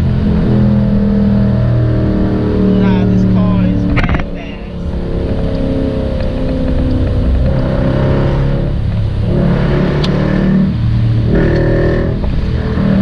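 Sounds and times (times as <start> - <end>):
car engine heard from inside cabin: 0.0 - 13.0.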